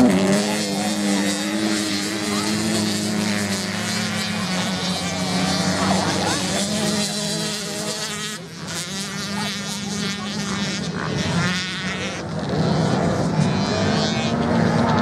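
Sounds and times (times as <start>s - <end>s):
dirt bike engines buzzing: 0.0s - 15.0s.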